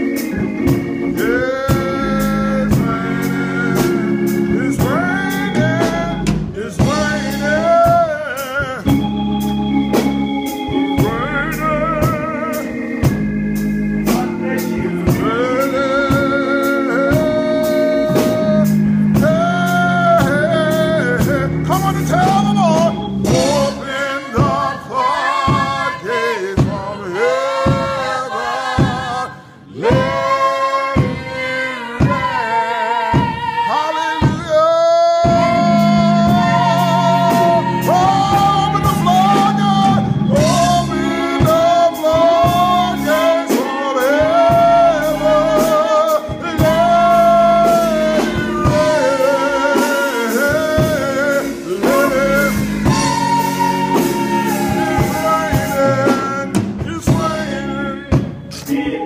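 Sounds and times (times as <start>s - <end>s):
steady beat: 0.0s - 32.4s, 34.2s - 59.0s
person singing with vibrato: 0.0s - 59.0s.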